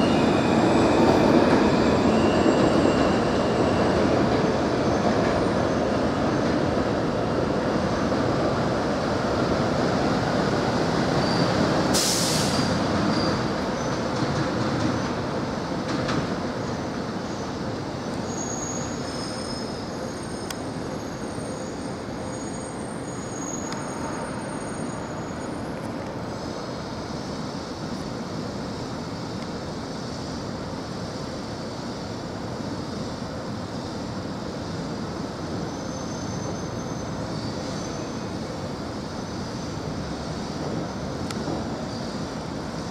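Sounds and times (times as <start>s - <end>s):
city traffic noise: 0.0s - 42.9s.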